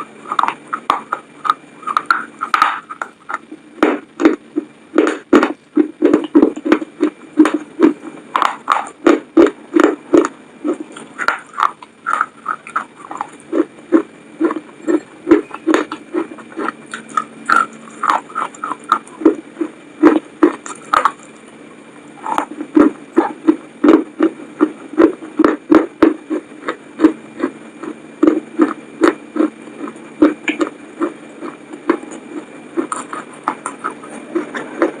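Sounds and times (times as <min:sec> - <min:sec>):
chewing crunchy food: 0:00.0 - 0:35.0.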